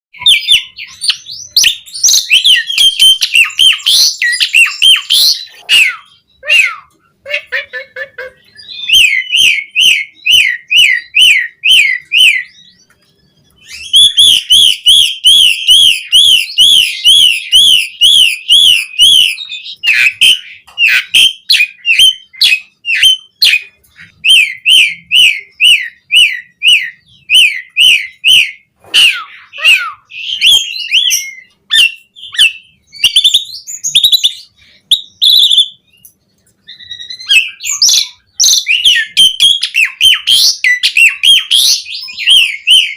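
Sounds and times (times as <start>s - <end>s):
starling singing whistled phrases: 0.2s - 7.7s, 8.3s - 42.9s.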